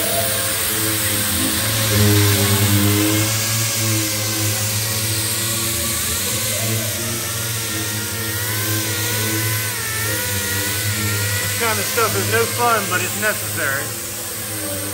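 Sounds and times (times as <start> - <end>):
pneumatic sanders whining: 0.0 - 14.9.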